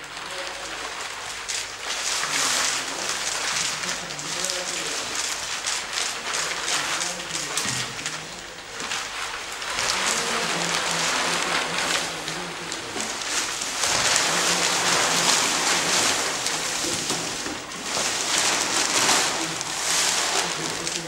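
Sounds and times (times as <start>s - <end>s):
plastic sheeting rustling: 0.0s - 21.0s.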